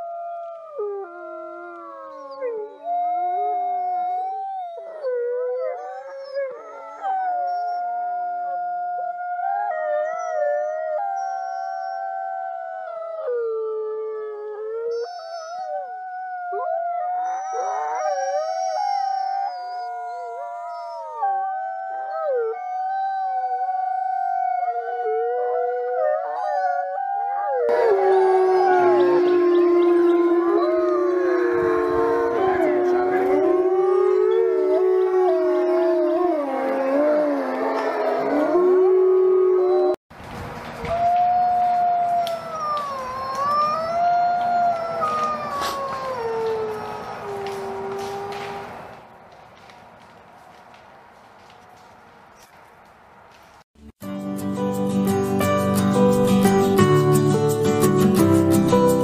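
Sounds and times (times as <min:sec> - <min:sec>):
wolves howling: 0:00.0 - 0:40.0, 0:40.8 - 0:48.9.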